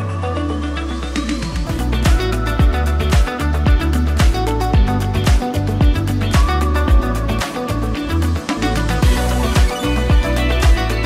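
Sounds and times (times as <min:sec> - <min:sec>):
rising synth sweep: 0:00.0 - 0:11.0.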